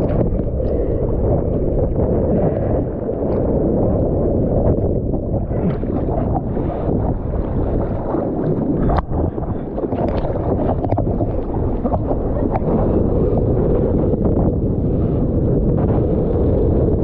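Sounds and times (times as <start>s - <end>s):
seawater rushing and sloshing: 0.0s - 17.0s
wind buffeting microphone: 0.0s - 17.0s.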